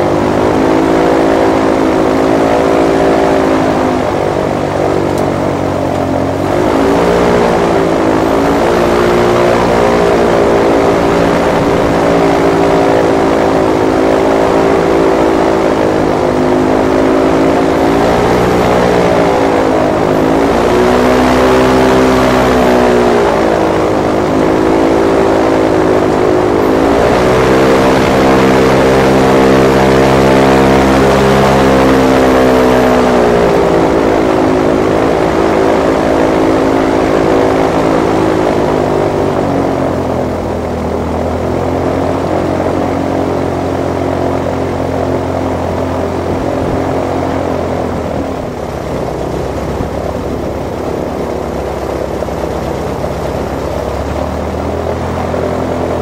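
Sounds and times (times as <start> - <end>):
airboat engine and propeller: 0.0 - 56.0.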